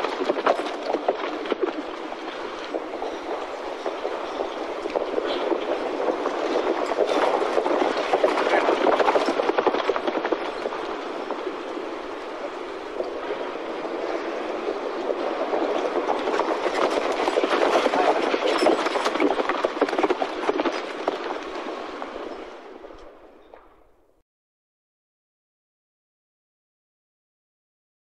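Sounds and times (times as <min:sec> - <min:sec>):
horse hooves cantering: 0:00.0 - 0:23.7.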